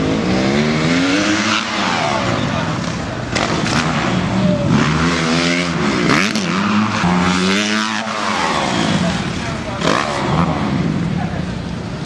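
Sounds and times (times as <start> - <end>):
dirt bike engines revving: 0.0 - 12.0
noisy background: 0.0 - 12.0.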